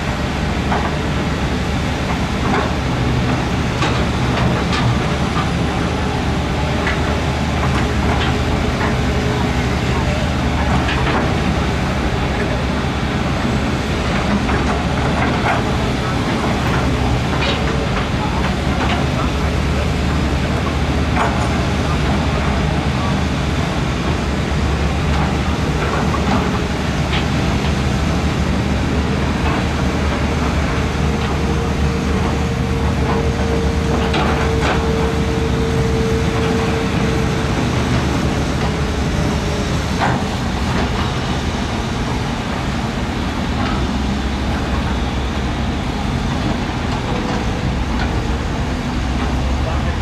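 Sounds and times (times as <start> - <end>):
diesel machinery engine drone: 0.0 - 50.0
steady whine: 0.0 - 50.0.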